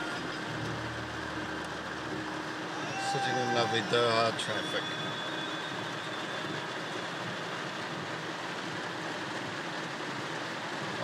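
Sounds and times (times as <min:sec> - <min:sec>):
heavy rain on a car roof: 0:00.0 - 0:11.0.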